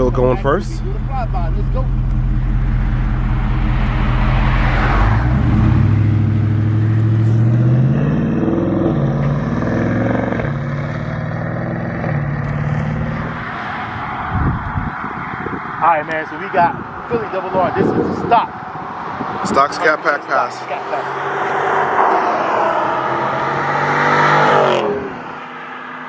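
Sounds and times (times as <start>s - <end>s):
car engine idling and accelerating: 0.0s - 26.0s.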